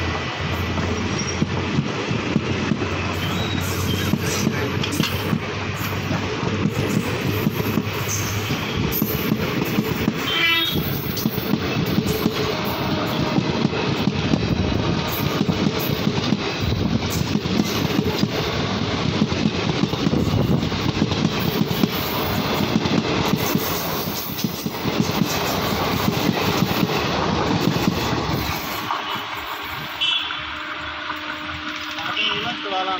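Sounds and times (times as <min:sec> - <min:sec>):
wheels clickety-clack: 0:00.0 - 0:29.7
train wheels rumbling on rails: 0:00.0 - 0:32.9.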